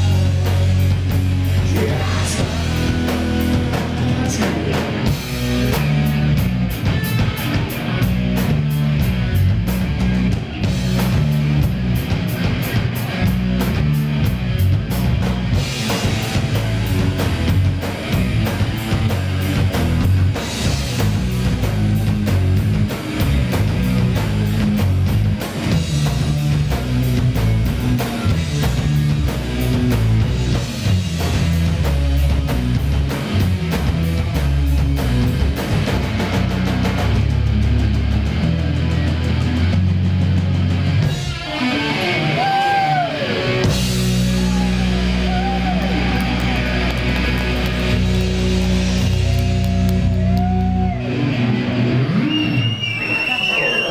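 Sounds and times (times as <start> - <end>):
drum kit: 0.0 - 52.6
electric guitars: 0.0 - 53.9.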